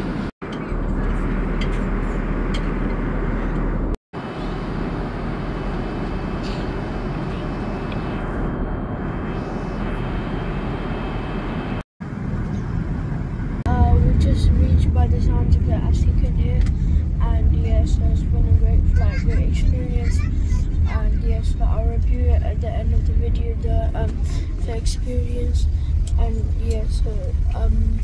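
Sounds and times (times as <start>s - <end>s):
jet airliner cabin noise: 0.0s - 28.0s.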